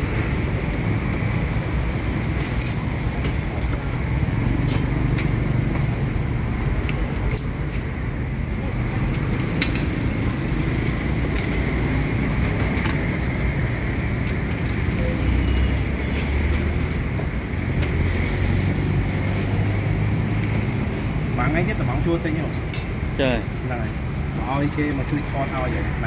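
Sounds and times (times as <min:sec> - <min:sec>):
low rumble of street traffic: 0:00.0 - 0:26.0.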